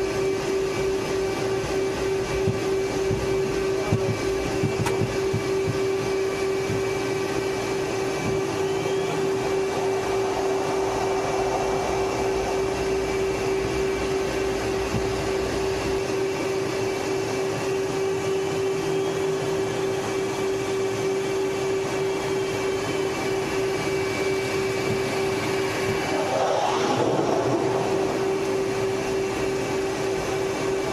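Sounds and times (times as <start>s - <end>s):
jet engines running at low power: 0.0s - 30.9s.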